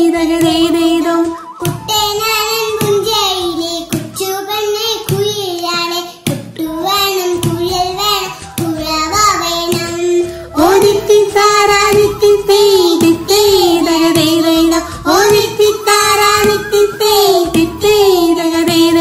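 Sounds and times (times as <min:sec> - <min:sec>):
child singing: 0:00.0 - 0:19.0
regular rowing beat knocks: 0:01.6 - 0:19.0.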